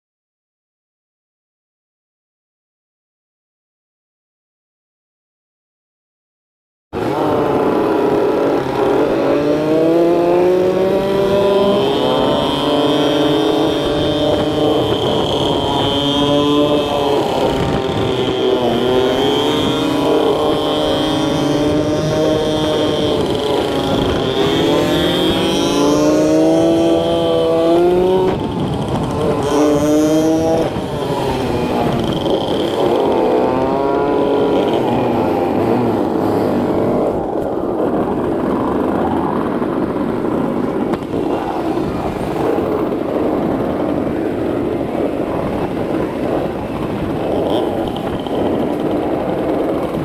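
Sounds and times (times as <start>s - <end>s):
motor scooter engine accelerating: 7.0s - 50.0s
wind buffeting microphone: 7.0s - 50.0s.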